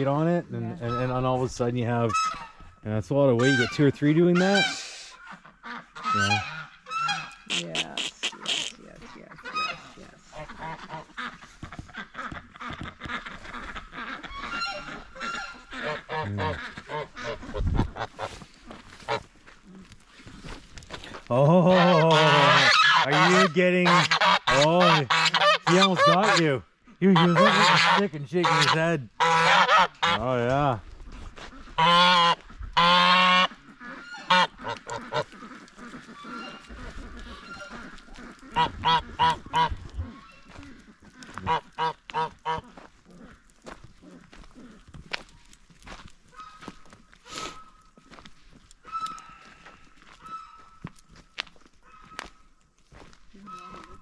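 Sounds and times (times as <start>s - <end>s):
geese honking: 0.0s - 19.8s, 21.3s - 30.4s, 31.1s - 45.2s, 45.9s - 54.0s.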